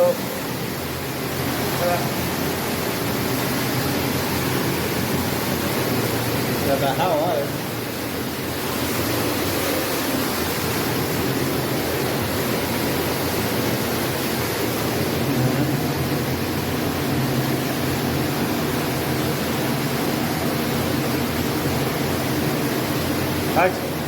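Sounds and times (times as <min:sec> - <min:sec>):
echoing underground waterfall roar: 0:00.0 - 0:24.0.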